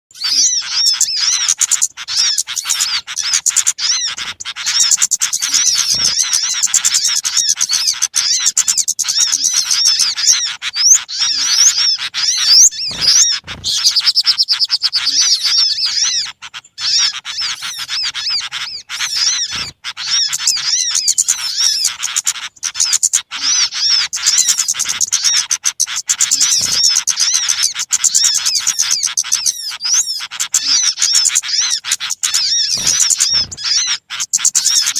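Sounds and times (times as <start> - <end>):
small birds chirping and trilling: 0.1 - 34.9.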